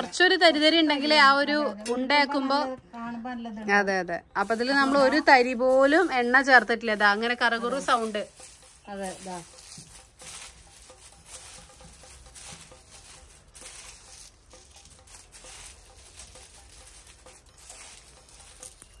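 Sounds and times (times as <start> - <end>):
dry leaves crackling in a pan: 0.0 - 1.5, 4.3 - 19.0.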